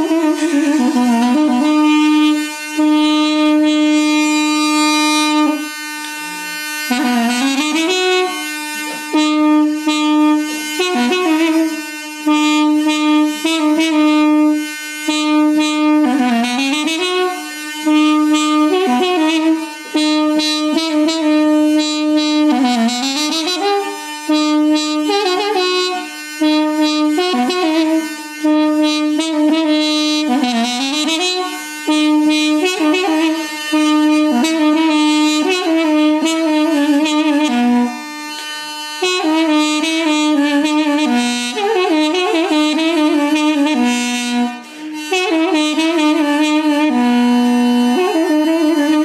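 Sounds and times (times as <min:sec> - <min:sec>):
reed instrument melody: 0:00.0 - 0:49.0
steady drone: 0:00.0 - 0:49.0.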